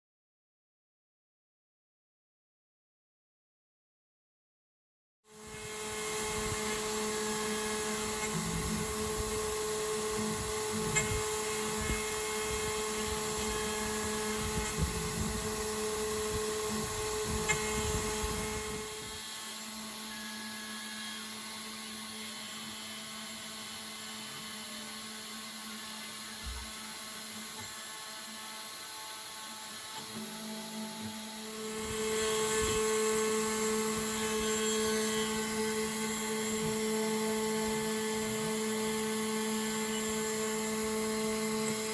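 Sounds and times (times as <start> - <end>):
end mill cutting aluminium: 5.3 - 41.9
router spindle whine: 5.3 - 41.9.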